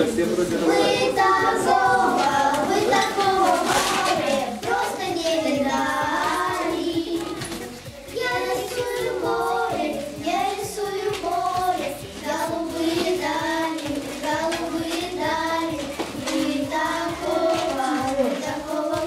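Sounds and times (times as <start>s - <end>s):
children singing: 0.0s - 19.0s.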